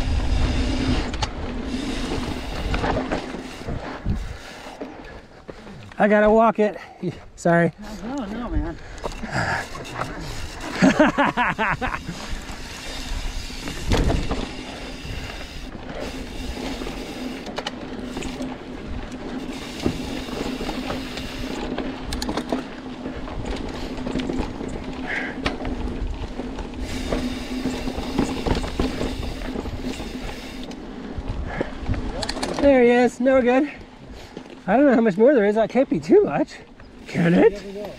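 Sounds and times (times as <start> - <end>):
bike rolling on dirt trail: 0.0 - 37.9
bike clicks and knocks: 0.6 - 6.1, 8.0 - 33.0.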